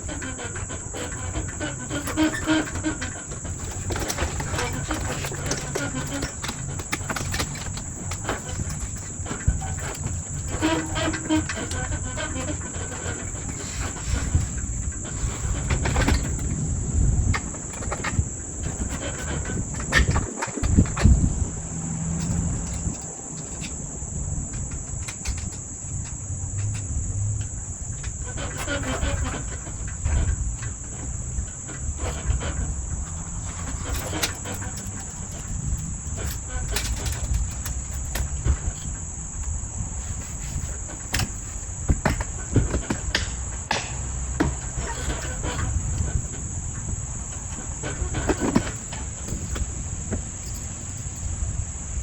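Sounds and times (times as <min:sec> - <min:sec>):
insect chorus: 0:00.0 - 0:52.0.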